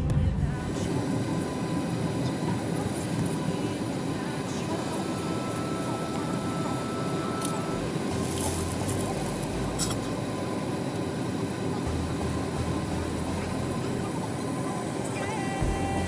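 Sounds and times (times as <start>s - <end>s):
airliner cabin engine roar: 0.0s - 16.0s.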